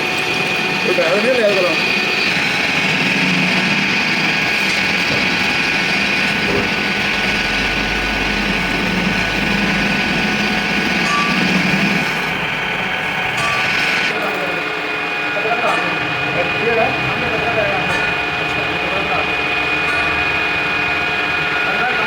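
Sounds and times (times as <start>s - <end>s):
high steady whine: 0.0s - 22.0s
workshop machine drone: 0.0s - 22.0s.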